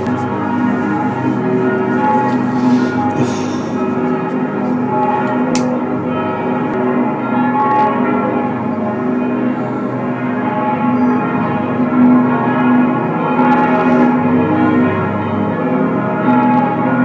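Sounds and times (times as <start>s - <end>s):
church bells pealing: 0.0s - 17.0s.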